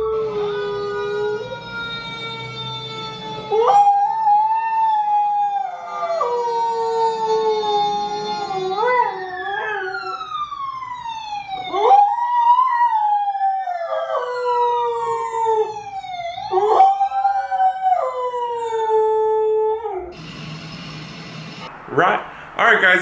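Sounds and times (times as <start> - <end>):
dog howling: 0.0 - 10.6, 11.7 - 20.2
siren wailing from television: 0.0 - 21.8.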